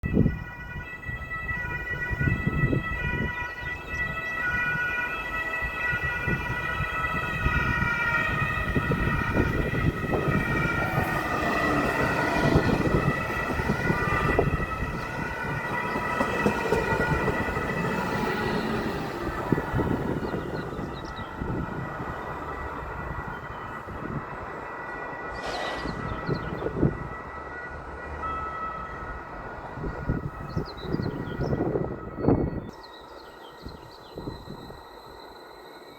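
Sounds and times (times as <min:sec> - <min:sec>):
high multi-tone train whine: 0:00.0 - 0:35.9
train wheels rumbling on rail: 0:01.9 - 0:35.1.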